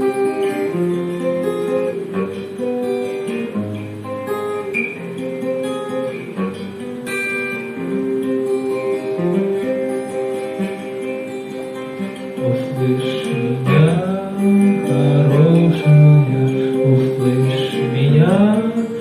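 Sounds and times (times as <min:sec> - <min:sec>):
acoustic guitar melody: 0:00.0 - 0:19.0.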